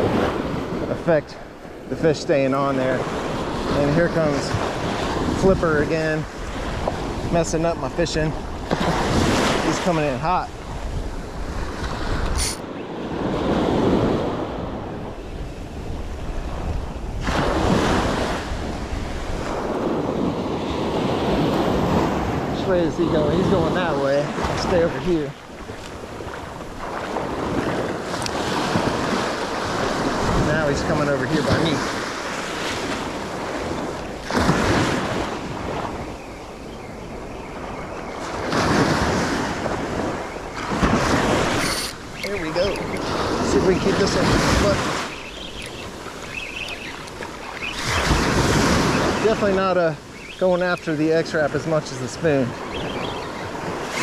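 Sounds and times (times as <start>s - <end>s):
waves washing on sand: 0.0s - 54.0s
wind buffeting microphone: 0.0s - 54.0s.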